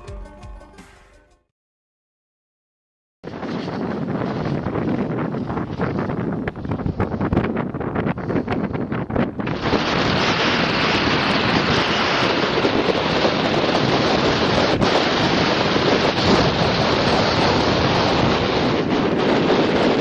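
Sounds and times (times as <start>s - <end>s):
strong wind on microphone: 3.2s - 20.0s.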